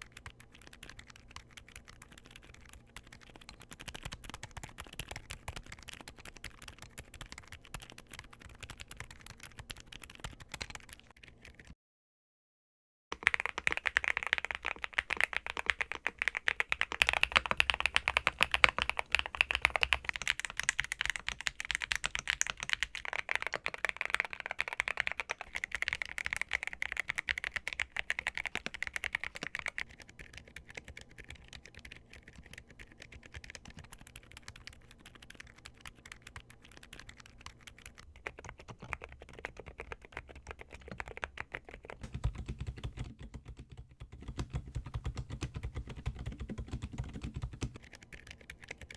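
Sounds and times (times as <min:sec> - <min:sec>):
fast typing on a keyboard: 0:00.0 - 0:11.8, 0:13.1 - 0:48.9.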